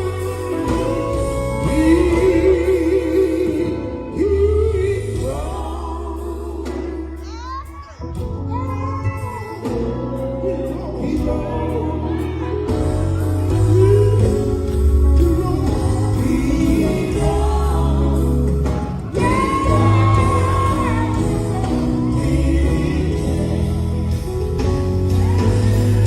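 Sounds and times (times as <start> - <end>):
gospel group singing: 0.0 - 7.2, 9.6 - 26.0
band with heavy bass: 0.0 - 26.0.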